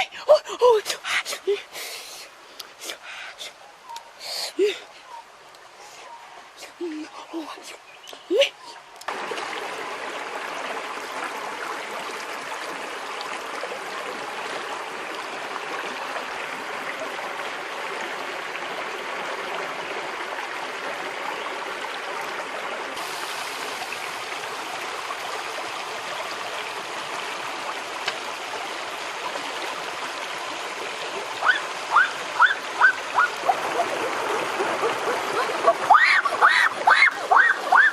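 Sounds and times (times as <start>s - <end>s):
river water flowing: 0.0s - 37.9s.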